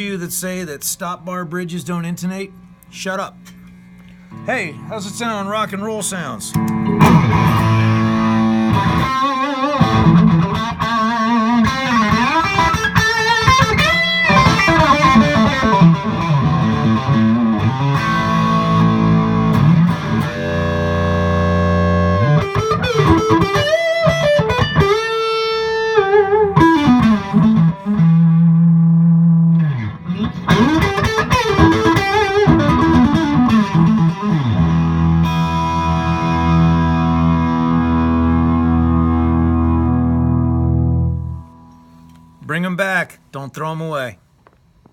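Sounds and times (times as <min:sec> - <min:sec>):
overdriven electric guitar lead: 0:04.0 - 0:42.4.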